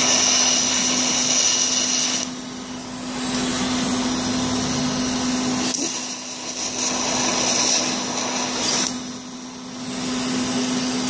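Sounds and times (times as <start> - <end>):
electrical hum: 0.0 - 11.0
welding arc hissing: 0.0 - 11.0.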